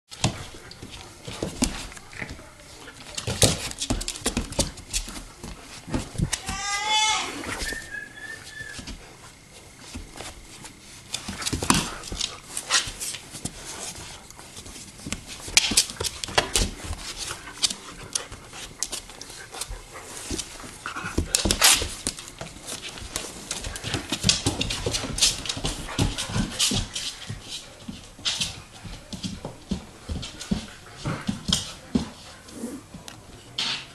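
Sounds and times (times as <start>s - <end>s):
paws and claws clicking on tiles: 0.1s - 7.8s, 9.6s - 33.2s.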